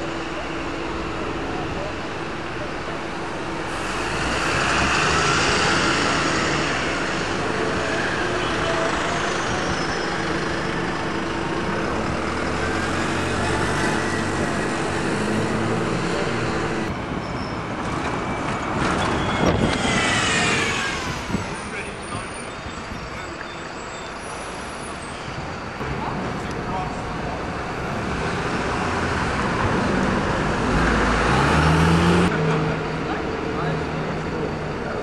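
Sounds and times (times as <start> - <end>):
bus engine drone with whine: 0.0 - 35.0
city traffic noise: 0.0 - 35.0.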